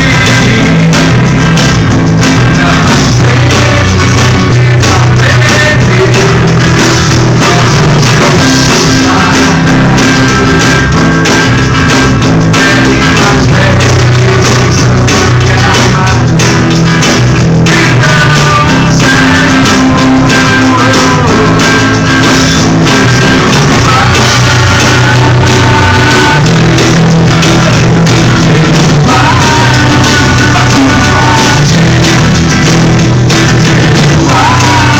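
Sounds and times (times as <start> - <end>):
person singing: 0.0 - 34.9
rock band playing: 0.0 - 34.9.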